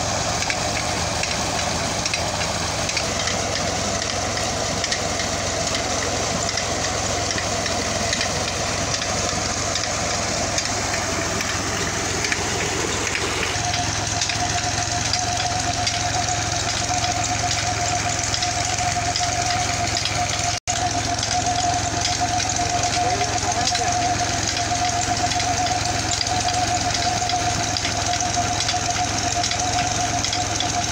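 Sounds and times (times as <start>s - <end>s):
steady high whine: 0.0s - 30.9s
tractor diesel engine running: 0.0s - 30.9s.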